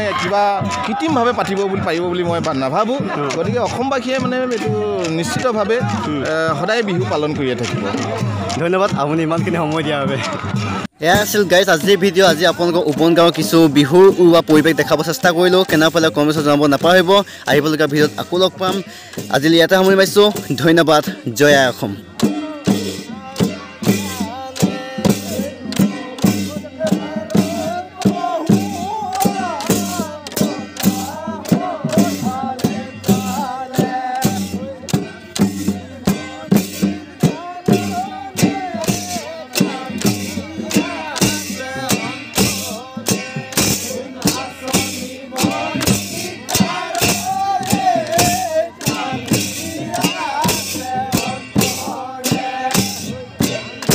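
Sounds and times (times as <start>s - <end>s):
music with percussion beat: 0.0s - 53.9s.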